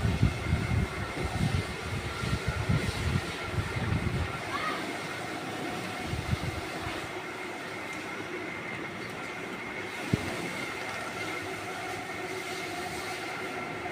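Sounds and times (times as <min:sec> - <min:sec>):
mechanical hum: 0:00.0 - 0:13.9.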